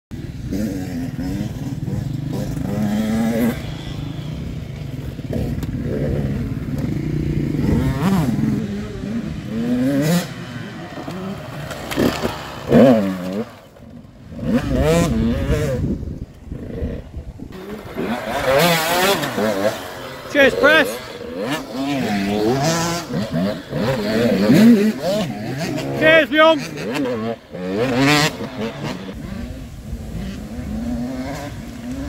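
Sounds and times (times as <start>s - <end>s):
motorcycle engines revving: 0.1s - 32.0s.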